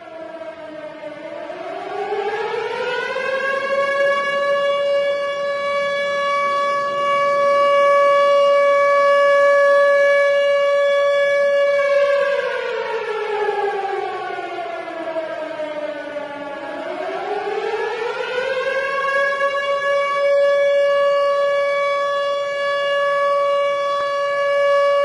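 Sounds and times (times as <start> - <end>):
warning siren wailing: 0.0 - 25.0.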